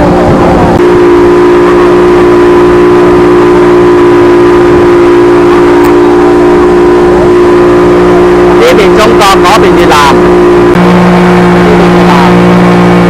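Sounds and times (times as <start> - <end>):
engine droning: 0.0 - 13.0
low rumble: 0.0 - 13.0.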